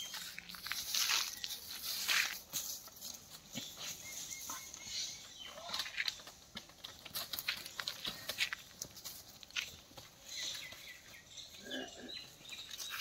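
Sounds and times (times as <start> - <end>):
hooves clicking and rustling on stalks: 0.0 - 13.0.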